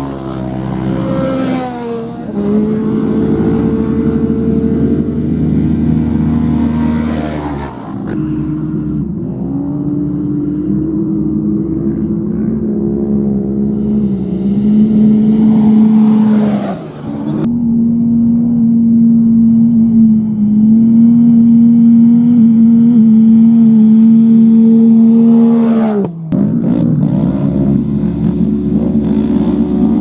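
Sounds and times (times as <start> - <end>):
race vehicle engines at high revs: 0.0 - 30.0.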